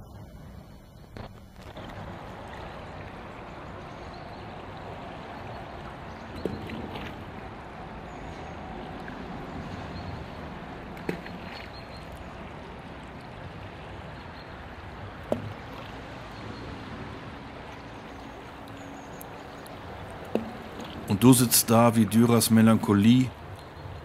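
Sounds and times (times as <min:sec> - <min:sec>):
river water flowing: 0:01.6 - 0:24.0.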